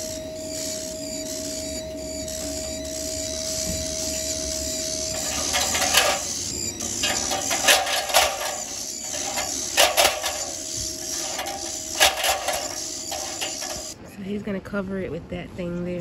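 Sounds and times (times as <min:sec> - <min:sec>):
steady hum: 0:00.0 - 0:14.0
nestling birds begging calls: 0:00.5 - 0:14.0.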